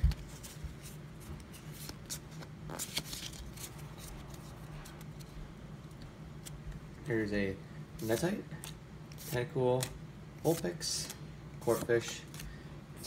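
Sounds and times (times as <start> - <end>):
trading cards flicking and rustling: 0.0 - 6.8, 8.0 - 12.6.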